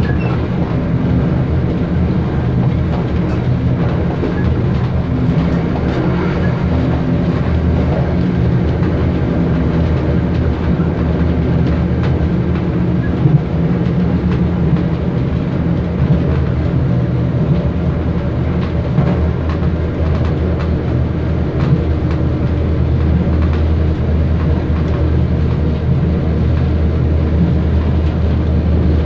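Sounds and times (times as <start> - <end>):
diesel train drone: 0.0 - 29.0.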